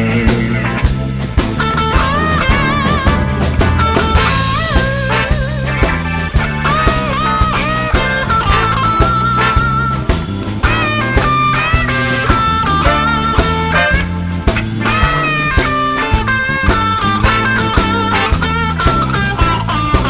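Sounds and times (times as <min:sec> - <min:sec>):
bass: 0:00.0 - 0:20.0
lead guitar melody: 0:00.0 - 0:20.0
steady drum beat: 0:00.0 - 0:20.0.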